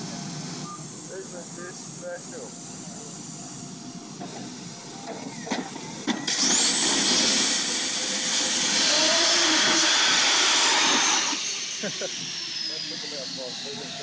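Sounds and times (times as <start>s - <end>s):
loud hissing rush with whistle: 0.0s - 4.0s, 6.3s - 14.0s.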